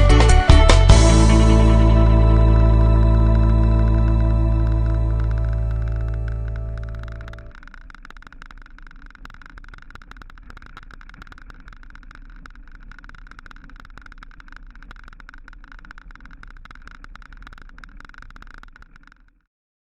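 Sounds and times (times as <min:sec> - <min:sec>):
bike rattling over rough road: 0:02.7 - 0:19.4
dense irregular clicking: 0:02.7 - 0:19.5.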